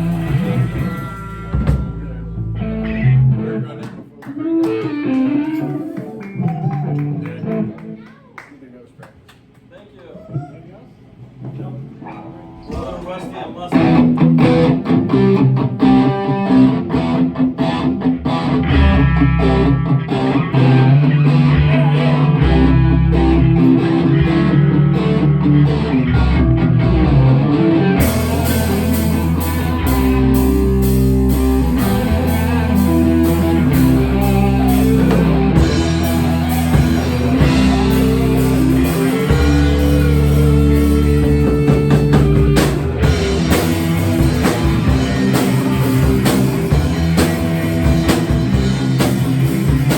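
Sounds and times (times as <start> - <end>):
rock music with guitar and drums: 0.0 - 3.6, 4.4 - 7.6, 13.7 - 49.9.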